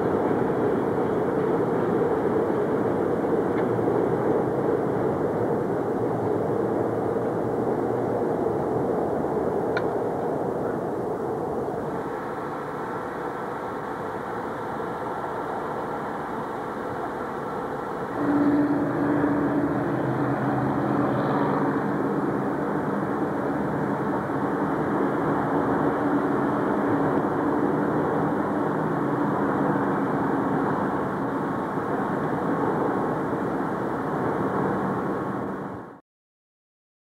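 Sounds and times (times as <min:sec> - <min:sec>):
diesel locomotive idling: 0:00.0 - 0:36.0.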